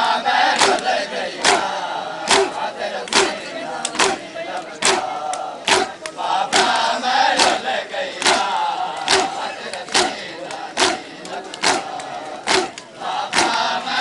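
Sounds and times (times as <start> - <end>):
crowd slapping chests in unison: 0.0 - 14.0
men chanting: 0.0 - 14.0.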